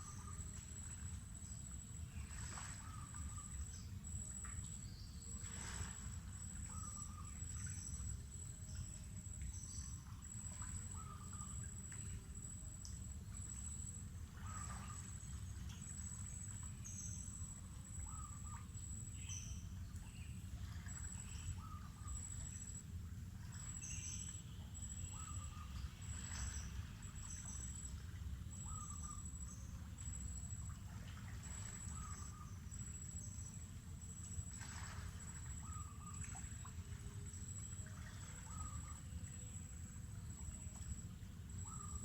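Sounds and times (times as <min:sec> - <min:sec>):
insect pulsed trill: 0:00.0 - 0:42.0.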